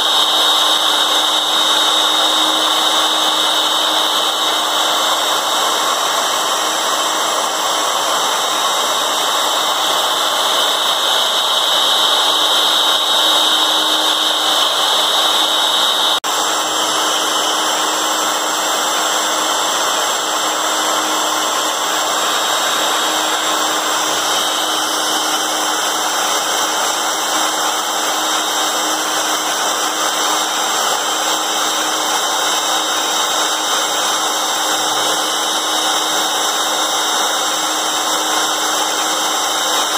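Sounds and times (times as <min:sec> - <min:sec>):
bit cutting fibreboard: 0:00.0 - 0:39.9
router motor whining: 0:00.0 - 0:39.9.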